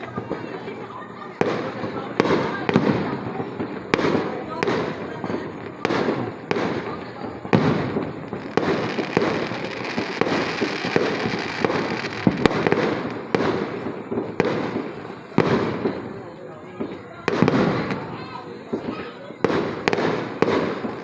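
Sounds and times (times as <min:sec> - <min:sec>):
firework bangs: 0:00.0 - 0:21.0
fireworks crackling: 0:00.0 - 0:21.0.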